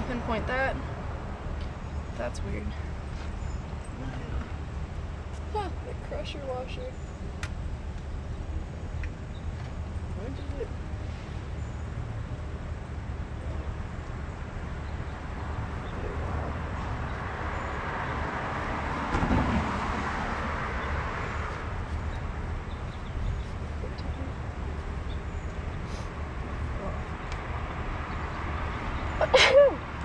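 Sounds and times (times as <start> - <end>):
low rumble of street noise: 0.0 - 30.0
vehicle passing: 0.0 - 30.0.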